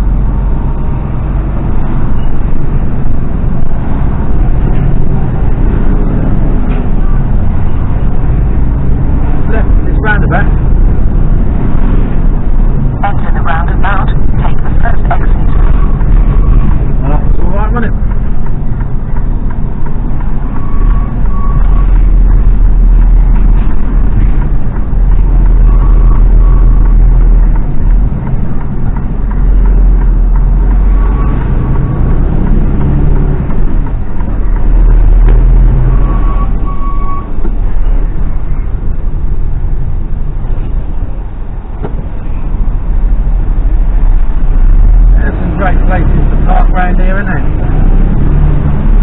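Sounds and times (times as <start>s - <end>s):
diesel engine rumbling: 0.0s - 49.0s.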